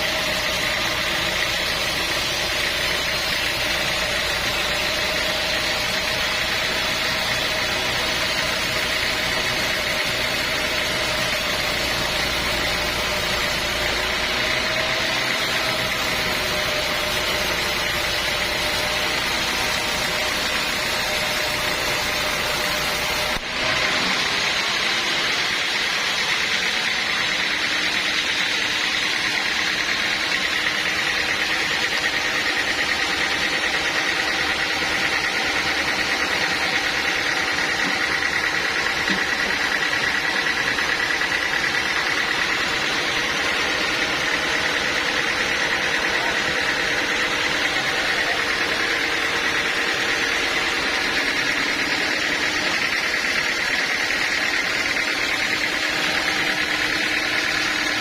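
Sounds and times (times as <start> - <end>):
high machine whine: 0.0 - 58.0
sawmill machinery drone: 0.0 - 58.0.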